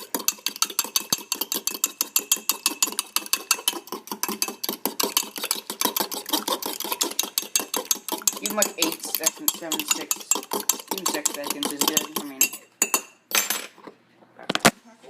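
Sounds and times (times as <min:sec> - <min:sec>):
fork whisking egg in mug: 0:00.0 - 0:13.2.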